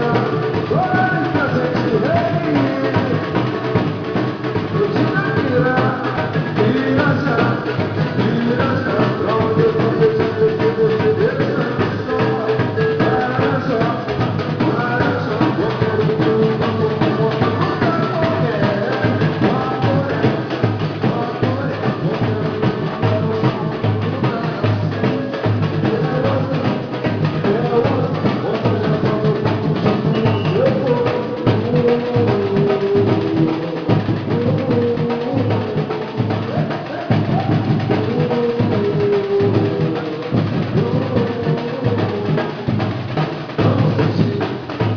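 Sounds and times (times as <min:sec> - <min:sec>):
deep bass drum: 0:00.0 - 0:44.9
percussion group drumming: 0:00.0 - 0:44.9.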